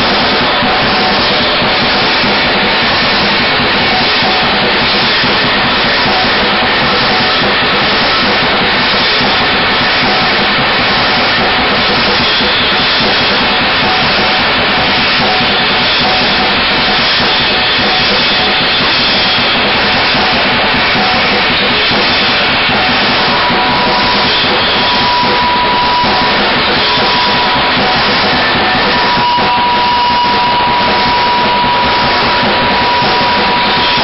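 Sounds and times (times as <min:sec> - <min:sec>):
drum kit with cymbals: 0:00.0 - 0:34.0
electric guitar noise: 0:00.0 - 0:34.0
steady high tone: 0:00.0 - 0:34.0.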